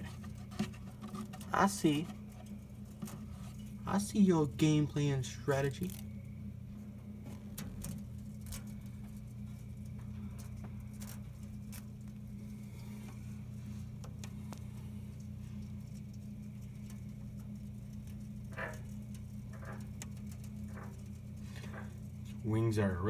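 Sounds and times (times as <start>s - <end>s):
moth wings fluttering: 0.0s - 22.6s
steady low hum: 0.0s - 23.0s.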